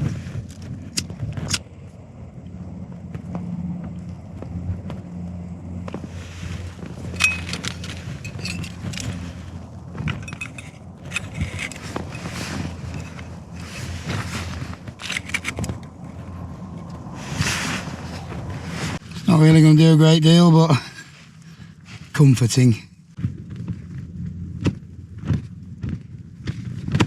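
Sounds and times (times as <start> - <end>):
gear clicking and rustling: 0.0 - 19.9, 20.8 - 27.0
strong wind buffeting a tent: 0.0 - 27.0.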